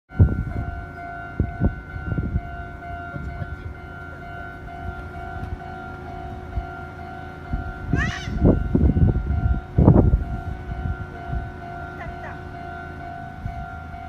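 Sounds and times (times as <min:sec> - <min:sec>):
level crossing warning bell: 0:00.1 - 0:14.0.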